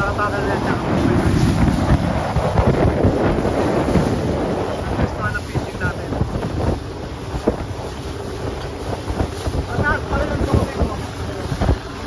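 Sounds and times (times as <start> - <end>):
water rushing past boat: 0.0 - 12.0
wind buffeting microphone: 0.0 - 12.0.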